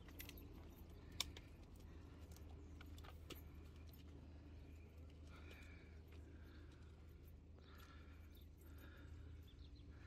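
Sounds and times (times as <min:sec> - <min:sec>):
faint outdoor hum: 0:00.0 - 0:10.0.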